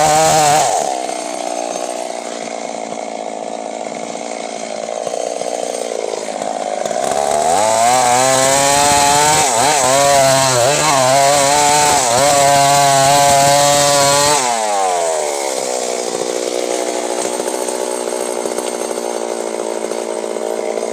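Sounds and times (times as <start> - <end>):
chainsaw revving: 0.0 - 20.9.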